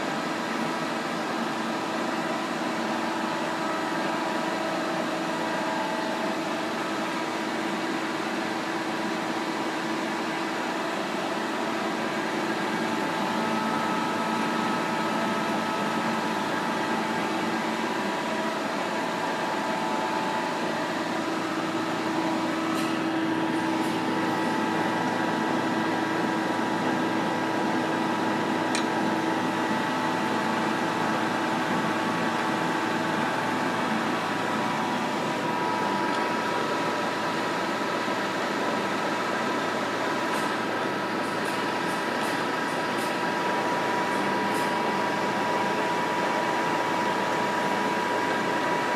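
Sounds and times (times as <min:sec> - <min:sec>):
lathe humming and whining: 0:00.0 - 0:48.9.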